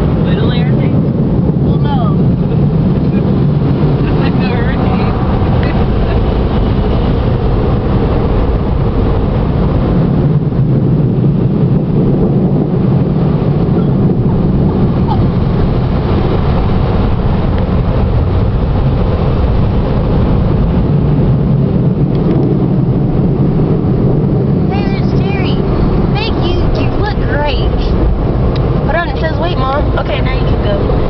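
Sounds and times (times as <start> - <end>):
car wash machinery rushing: 0.0 - 31.0.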